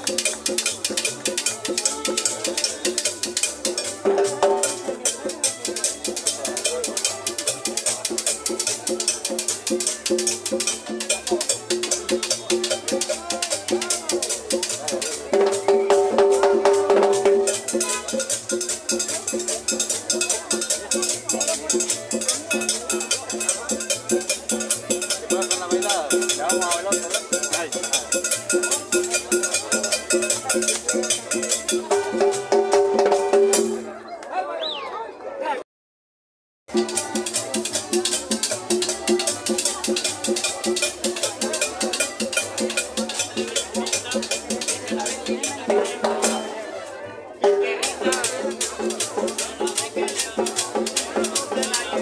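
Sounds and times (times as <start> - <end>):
cowbell-like percussion hits: 0.0 - 33.9, 36.7 - 46.7, 47.4 - 52.0
drum beat: 0.0 - 33.9, 36.7 - 46.5, 47.4 - 52.0
accordion: 0.0 - 34.2, 36.7 - 52.0.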